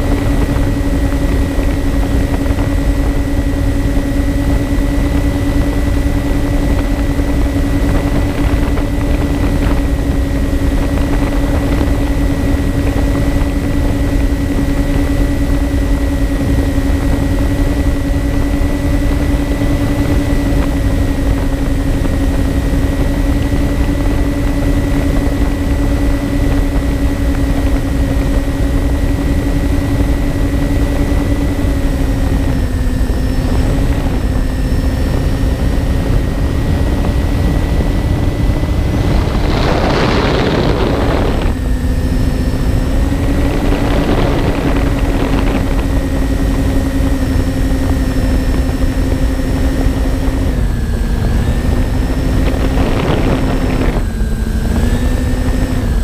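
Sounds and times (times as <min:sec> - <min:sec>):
model plane motors and propellers: 0:00.0 - 0:56.0
wind rumbling over microphone: 0:00.0 - 0:56.0.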